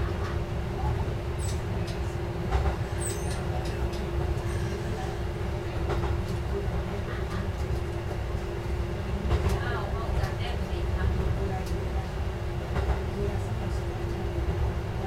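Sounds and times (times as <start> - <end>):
diesel railcar rumble: 0.0 - 15.0.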